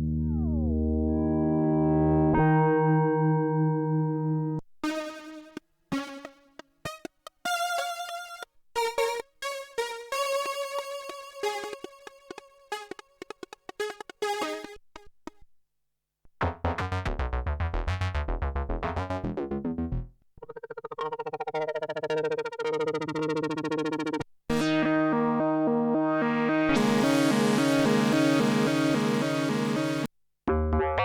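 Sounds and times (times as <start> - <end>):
synthesizer notes and sequences: 4.8 - 15.1, 16.4 - 31.0.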